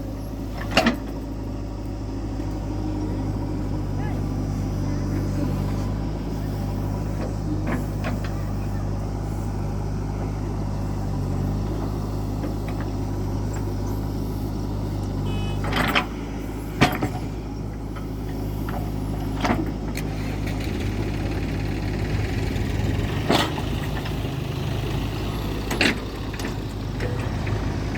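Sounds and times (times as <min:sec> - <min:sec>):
heavy diesel machinery running: 0:00.0 - 0:27.9.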